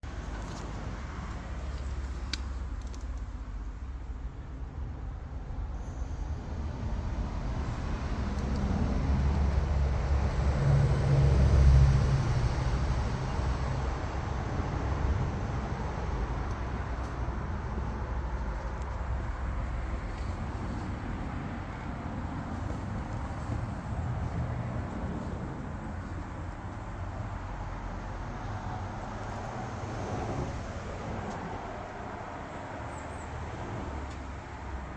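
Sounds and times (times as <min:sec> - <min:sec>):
steady low rumbling: 0:00.0 - 0:31.7.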